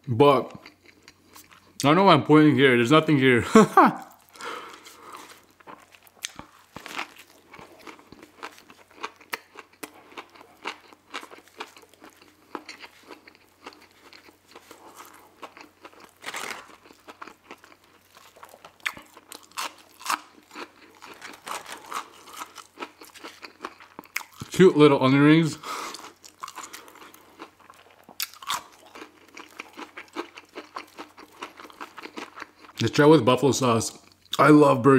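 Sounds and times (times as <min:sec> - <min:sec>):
chewing crispy chicken sandwich: 0:00.5 - 0:01.8, 0:04.0 - 0:24.5, 0:25.7 - 0:32.8.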